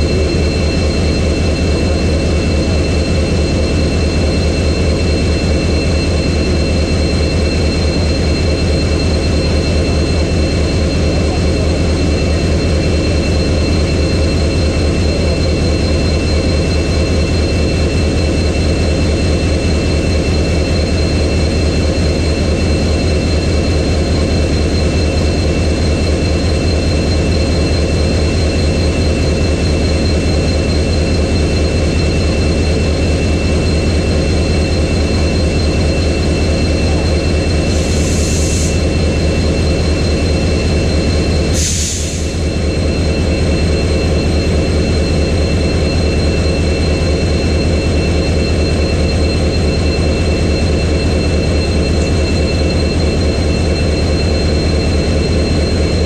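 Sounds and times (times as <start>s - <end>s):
diesel locomotive engine idling: 0.0s - 56.0s
high-pitched whine: 0.0s - 56.0s.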